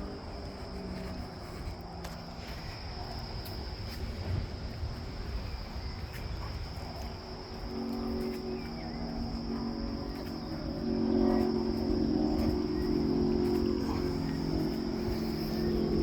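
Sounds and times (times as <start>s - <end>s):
crickets chirping: 0.0s - 16.0s
low wind rumble on microphone: 0.0s - 16.0s.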